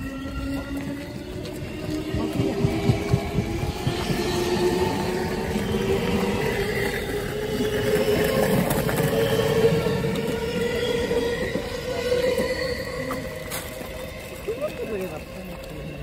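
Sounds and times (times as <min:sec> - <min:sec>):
train motor whine rising: 0:00.0 - 0:15.5
electric train rumble: 0:00.0 - 0:16.0.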